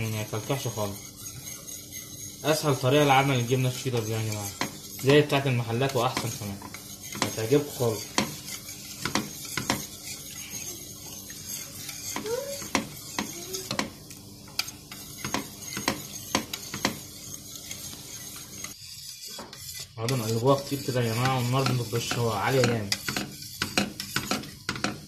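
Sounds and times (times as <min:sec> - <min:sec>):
whisk clinking against a pot: 0:00.0 - 0:25.0.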